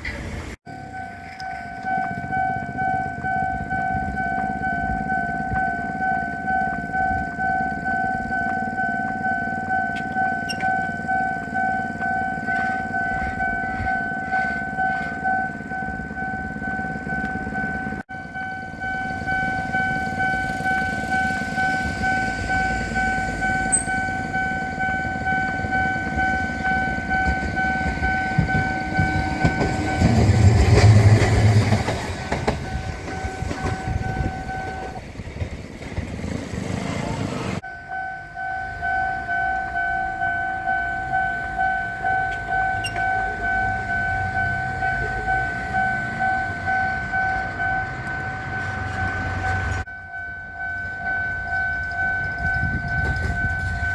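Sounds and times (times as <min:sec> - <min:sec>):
train rumble: 0:00.0 - 0:53.9
two-note crossing bell alarm: 0:00.7 - 0:31.7, 0:32.5 - 0:35.0, 0:37.6 - 0:53.9.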